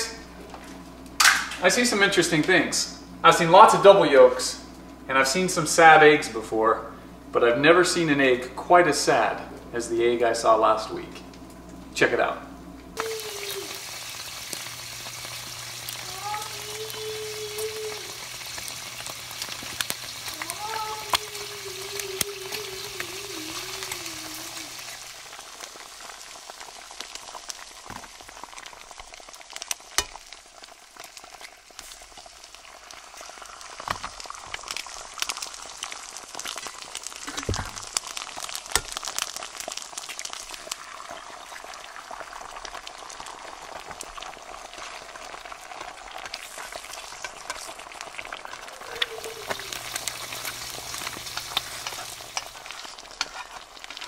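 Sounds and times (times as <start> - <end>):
eggs sizzling in a pan: 0.0 - 54.0.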